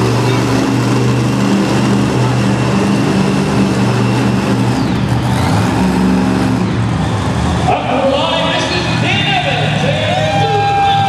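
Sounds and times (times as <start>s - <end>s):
monster truck engines droning: 0.0s - 11.0s.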